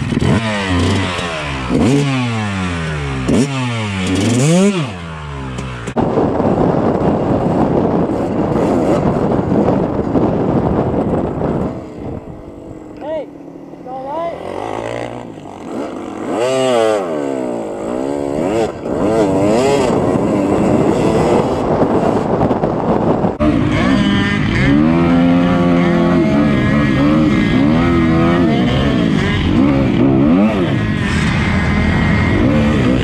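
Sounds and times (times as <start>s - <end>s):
dirt bike engine revving: 0.0s - 33.0s
dirt bike riding through sand: 0.0s - 33.0s.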